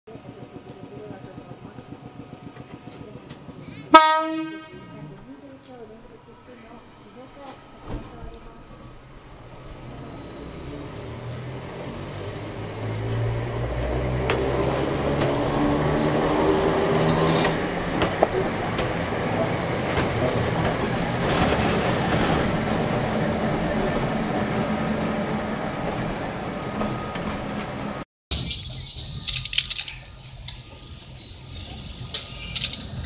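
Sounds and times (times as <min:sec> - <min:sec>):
electric train motor hum: 0:00.1 - 0:07.7, 0:08.3 - 0:28.0
wheels clacking on rails: 0:00.1 - 0:28.0, 0:28.7 - 0:33.0.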